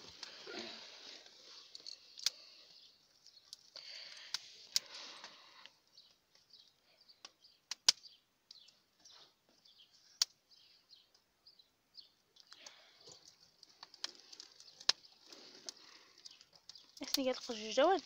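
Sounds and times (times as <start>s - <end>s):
twigs crackling in fire: 0.0s - 11.3s, 12.0s - 18.0s.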